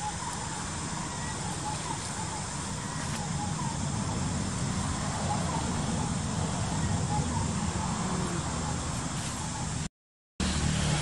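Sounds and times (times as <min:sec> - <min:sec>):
continuous low rumble: 0:00.0 - 0:11.0.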